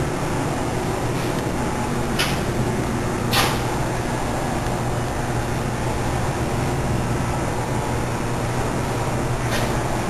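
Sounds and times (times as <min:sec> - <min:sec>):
electrical equipment hum and hiss: 0:00.0 - 0:10.0.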